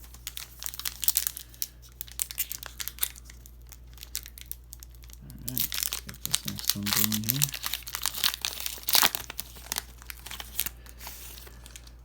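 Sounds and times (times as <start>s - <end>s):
card pack wrapper crinkling: 0.0s - 12.0s.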